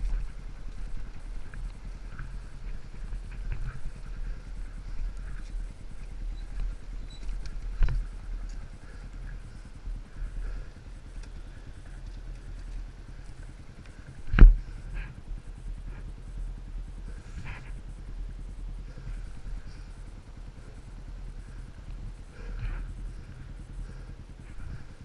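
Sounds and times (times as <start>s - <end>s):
motorcycle engine at low revs: 0.0s - 25.0s.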